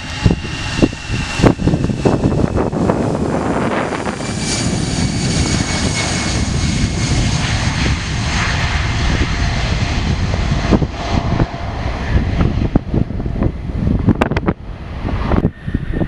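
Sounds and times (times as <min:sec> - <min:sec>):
jet engines at takeoff thrust: 0:00.0 - 0:16.0.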